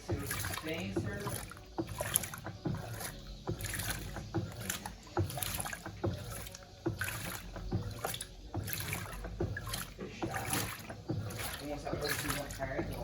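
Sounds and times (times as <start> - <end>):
washing machine motor hum: 0.0 - 13.0
water sloshing and knocking: 0.0 - 13.0.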